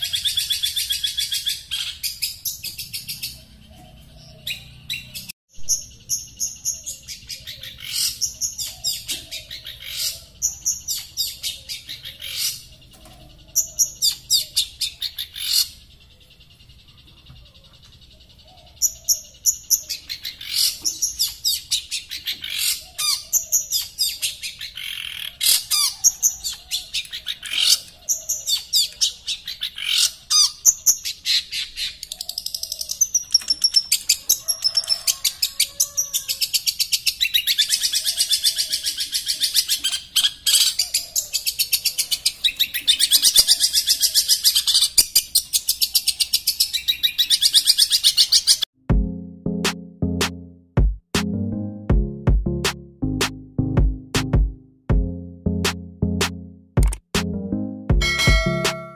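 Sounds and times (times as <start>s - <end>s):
bird singing sharp calls: 0.0s - 48.7s.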